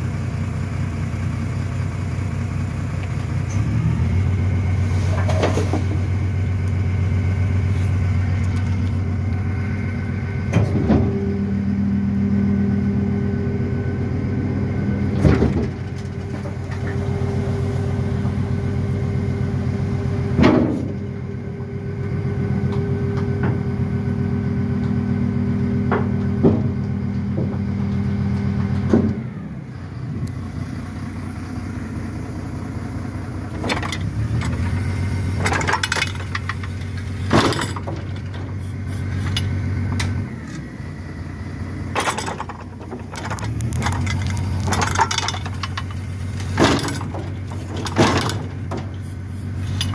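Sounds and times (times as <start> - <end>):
garbage truck diesel engine: 0.0 - 49.9.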